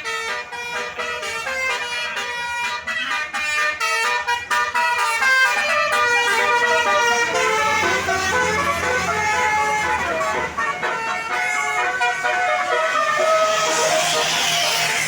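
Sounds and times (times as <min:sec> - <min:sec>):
low engine rumble: 0:00.0 - 0:15.0
multi-tone musical air horn: 0:00.0 - 0:15.0.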